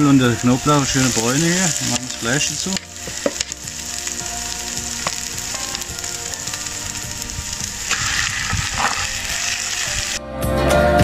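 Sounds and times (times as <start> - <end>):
oil sizzling in a pot: 0.0 - 10.2.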